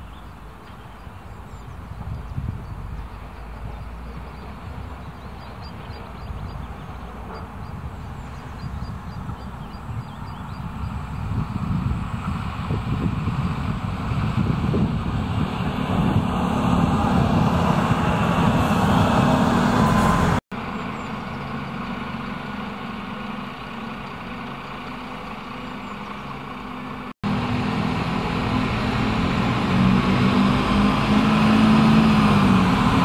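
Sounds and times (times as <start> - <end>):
diesel engines droning: 0.0 - 33.0
rail noise: 0.0 - 33.0.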